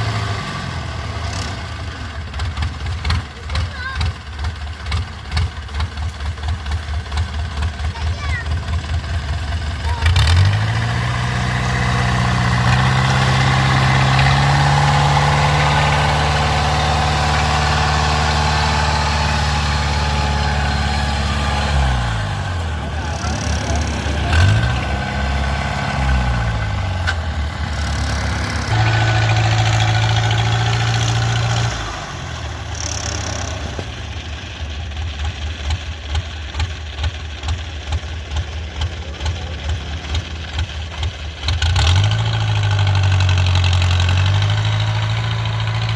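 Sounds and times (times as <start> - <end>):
harvester engine running: 0.0 - 45.9.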